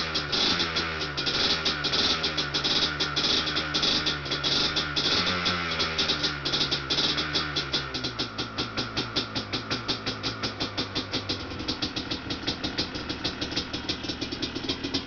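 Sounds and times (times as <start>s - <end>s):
two-stroke engine idling: 0.0s - 15.0s.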